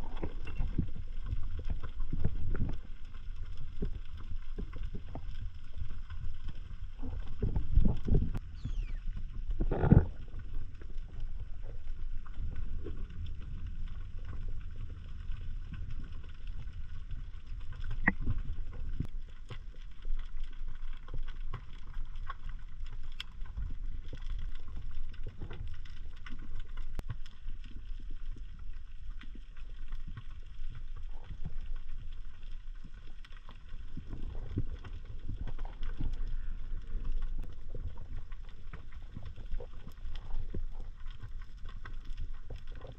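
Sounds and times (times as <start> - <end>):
faint clicks and crackles: 0.0 - 42.9
underwater rumble of moving water: 0.0 - 42.9.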